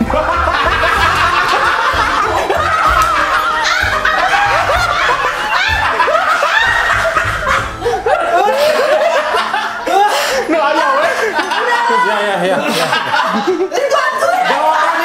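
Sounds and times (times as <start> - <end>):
background music: 0.0 - 15.0
men laughing: 0.0 - 15.0.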